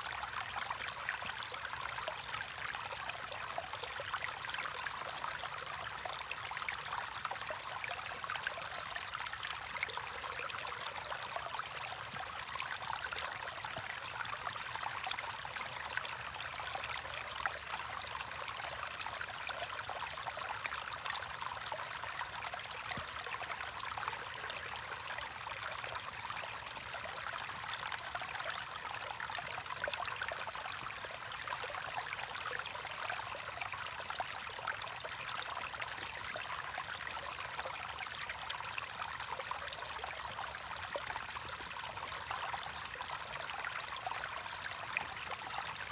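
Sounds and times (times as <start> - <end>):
stream babbling over rocks: 0.0 - 45.9.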